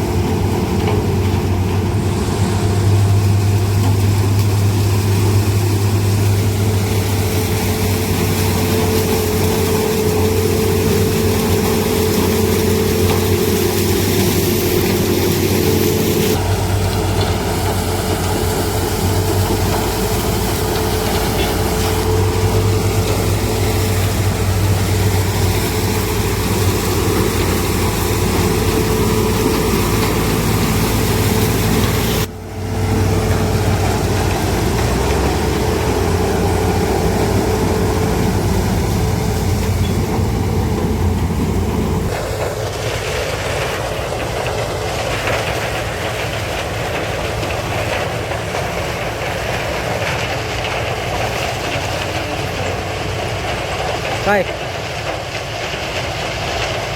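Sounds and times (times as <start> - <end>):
heavy diesel machinery running: 0.0 - 56.9.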